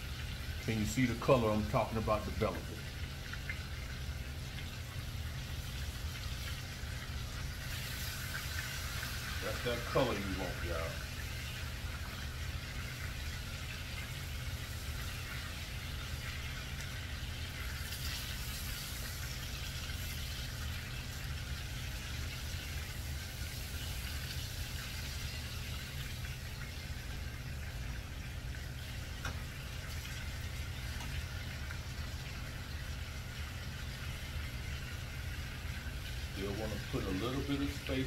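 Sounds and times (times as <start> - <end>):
chicken sizzling in a pan: 0.0 - 38.0
constant low hum: 0.0 - 38.0.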